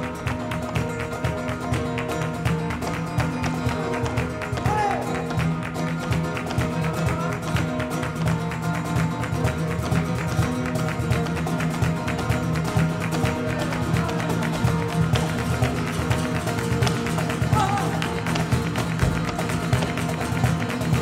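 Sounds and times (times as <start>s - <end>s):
flamenco guitar playing: 0.0s - 21.0s
hand clapping: 0.0s - 21.0s
sharp percussive taps: 0.0s - 21.0s.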